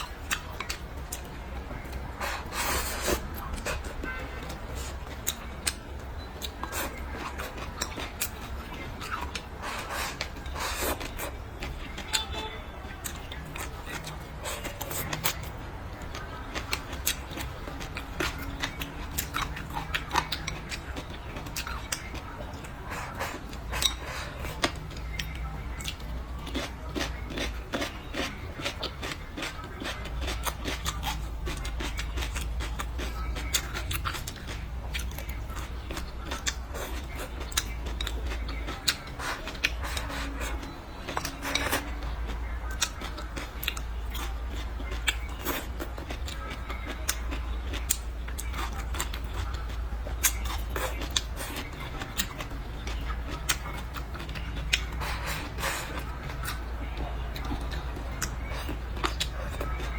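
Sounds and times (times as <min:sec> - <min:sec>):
chewing and lip smacking: 0:00.0 - 0:59.9
steady low hum: 0:00.0 - 0:59.9.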